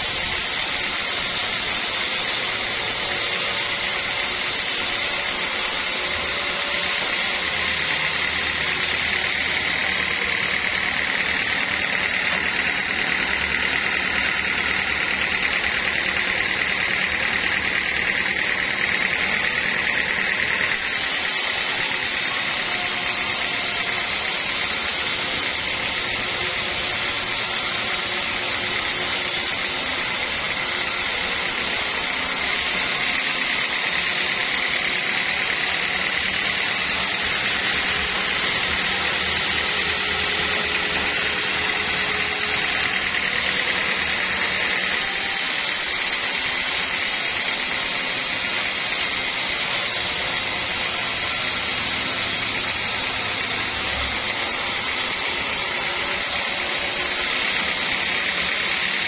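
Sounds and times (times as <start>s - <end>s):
band saw blade cutting wood: 0.0s - 59.0s
machine motor running: 0.0s - 59.0s.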